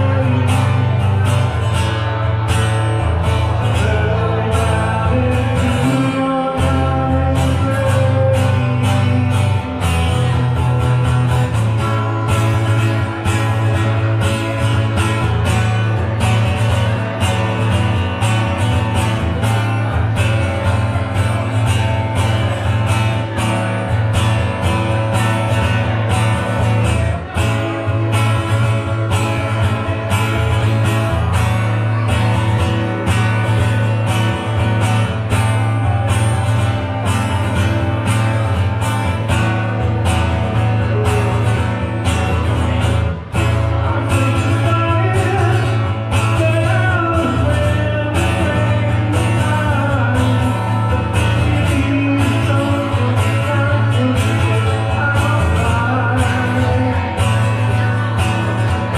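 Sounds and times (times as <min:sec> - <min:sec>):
lead guitar: 0:00.0 - 0:58.9
strong bass line: 0:00.0 - 0:58.9.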